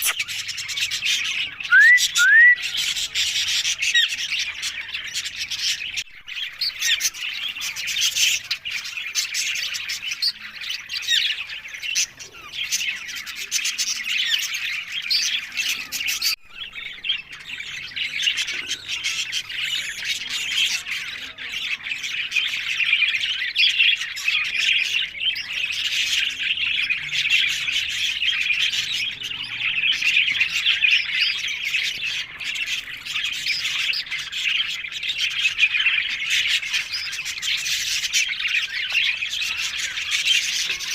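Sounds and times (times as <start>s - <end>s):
parakeets squawking and chirping: 0.0s - 40.9s.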